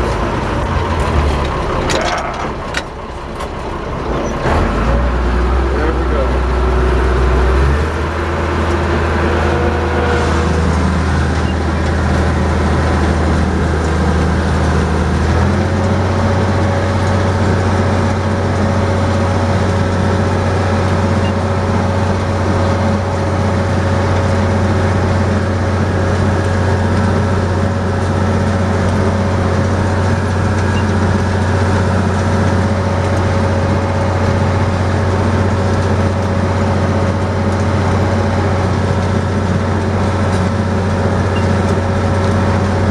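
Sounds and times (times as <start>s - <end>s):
round baler running: 0.0s - 42.9s
tractor engine running: 0.0s - 42.9s.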